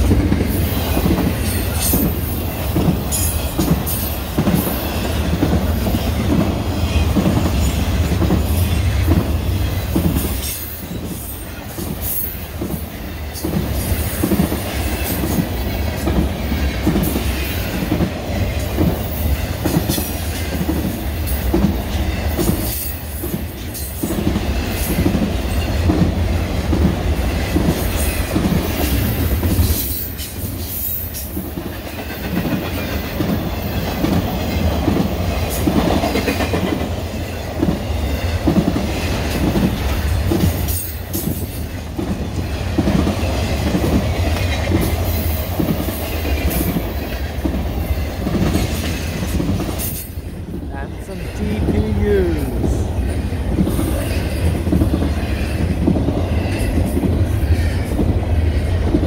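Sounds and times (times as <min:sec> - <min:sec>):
train wheels clicking over joints: 0:00.0 - 0:50.6, 0:51.2 - 0:59.0
freight train rumble: 0:00.0 - 0:59.0.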